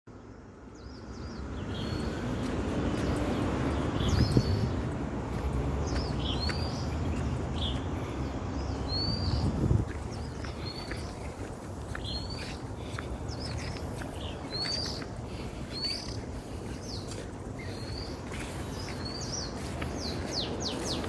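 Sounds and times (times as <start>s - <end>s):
birds chirping: 0.1s - 21.0s.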